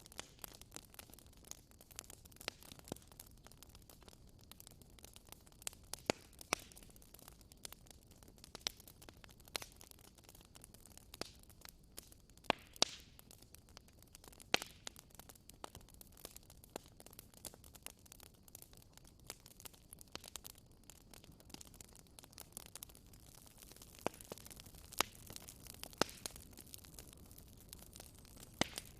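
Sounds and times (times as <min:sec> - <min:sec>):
campfire crackling and popping: 0:00.0 - 0:28.9
fire hissing: 0:00.0 - 0:28.9.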